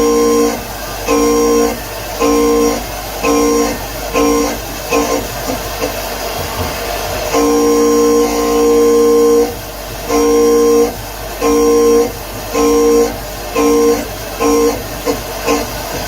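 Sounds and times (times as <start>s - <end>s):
milling machine drives whining: 0.0s - 16.0s
steady machine noise: 0.0s - 16.0s.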